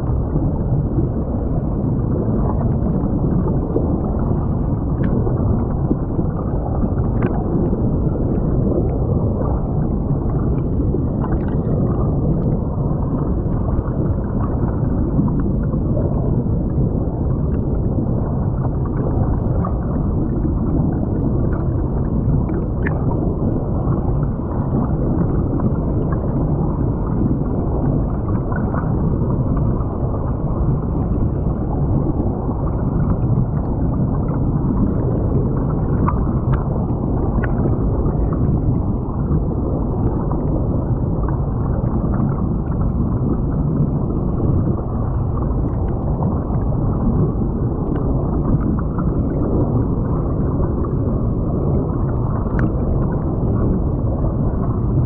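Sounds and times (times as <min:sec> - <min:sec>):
muffled underwater creek rushing: 0:00.0 - 0:55.0.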